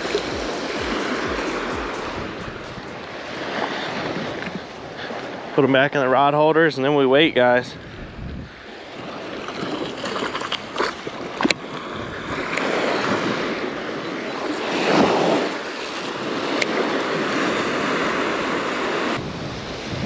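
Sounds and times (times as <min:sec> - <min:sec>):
wind on microphone: 0:00.0 - 0:05.6, 0:07.6 - 0:20.0
surf waves breaking on sand: 0:00.0 - 0:20.0.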